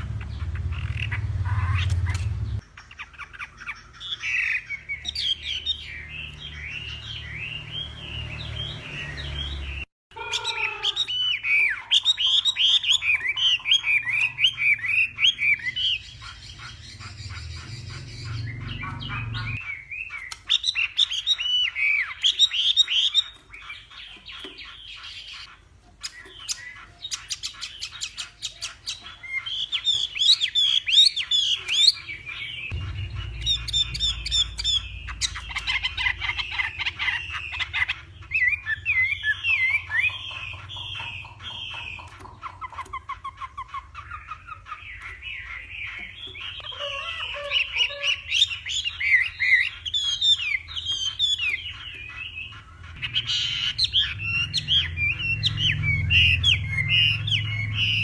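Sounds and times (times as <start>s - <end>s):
bird singing whistles and trills: 2.9s - 58.0s.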